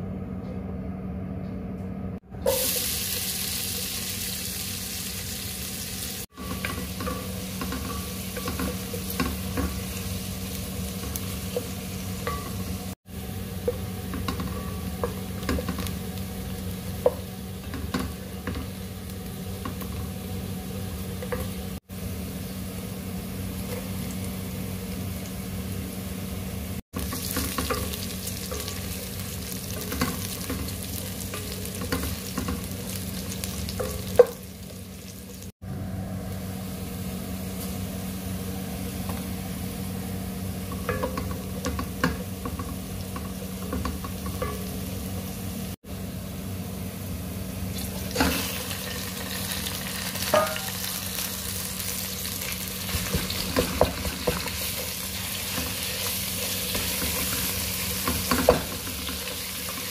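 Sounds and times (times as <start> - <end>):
food sizzling in a pan: 2.4 - 35.6, 36.2 - 45.8, 47.0 - 59.9.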